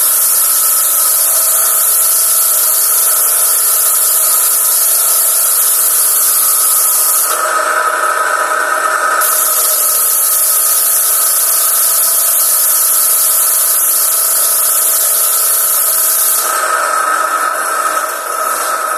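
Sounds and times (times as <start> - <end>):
pressure washer machine whine: 0.0 - 18.9
pressure washer water jet hissing: 0.0 - 18.9.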